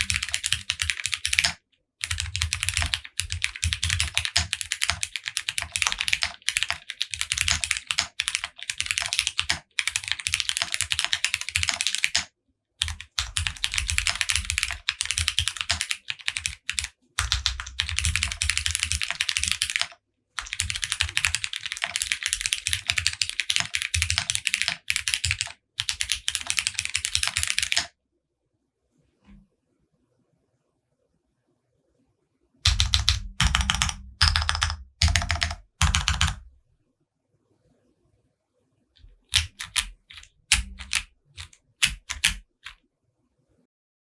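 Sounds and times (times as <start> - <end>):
fast typing on mechanical keyboard: 0.0 - 27.9, 32.6 - 36.5, 39.0 - 42.8.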